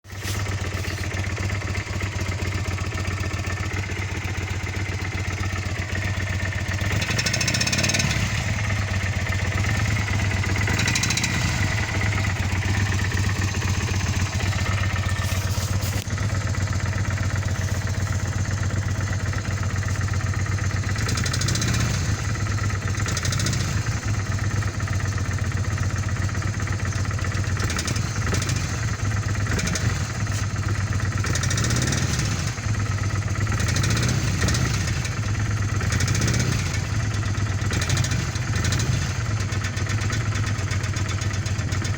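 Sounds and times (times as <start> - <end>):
engine knocking noise: 0.0 - 41.9
motorcycle engine idling: 0.0 - 41.9.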